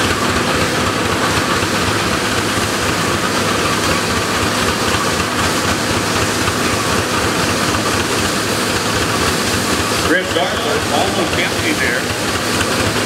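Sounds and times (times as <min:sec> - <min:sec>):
constant machine hum: 0:00.0 - 0:13.0
engine noise: 0:00.0 - 0:13.0
threshing machine clatter: 0:00.0 - 0:13.0.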